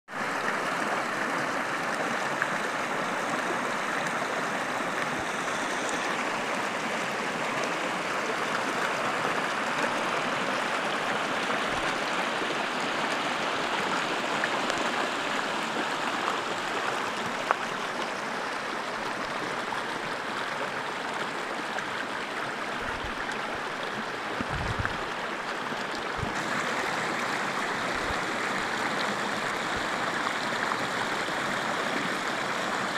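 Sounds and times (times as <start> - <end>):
stream rushing over rocks: 0.1 - 32.9.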